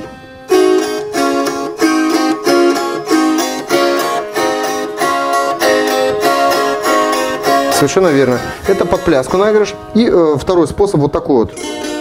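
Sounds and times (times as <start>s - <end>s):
gusli strummed: 0.0s - 12.0s.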